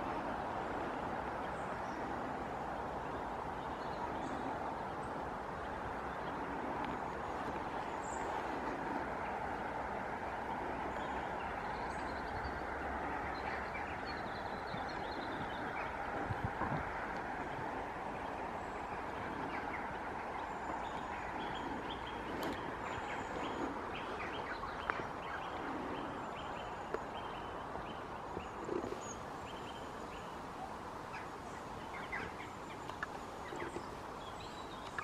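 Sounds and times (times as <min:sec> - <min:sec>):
outdoor background hiss: 0:00.0 - 0:35.0
small birds chirping: 0:00.0 - 0:35.0.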